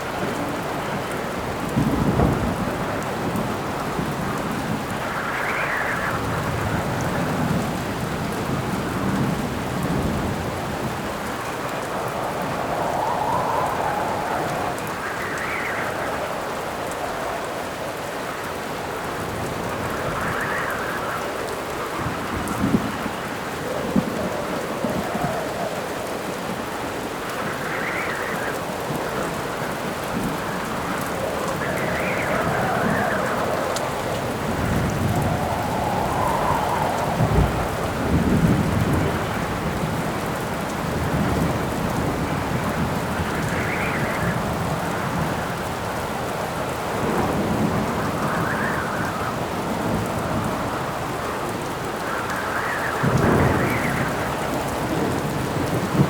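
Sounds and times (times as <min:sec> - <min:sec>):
thunder rolling: 0:00.0 - 0:17.8, 0:19.0 - 0:56.0
steady rain on a surface: 0:00.0 - 0:56.0
wind gusts howling: 0:00.0 - 0:56.0.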